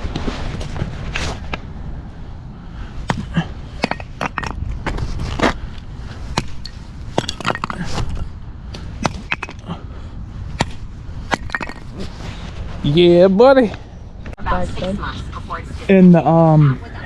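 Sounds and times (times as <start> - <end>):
wind rumble on microphone: 0.0 - 15.8.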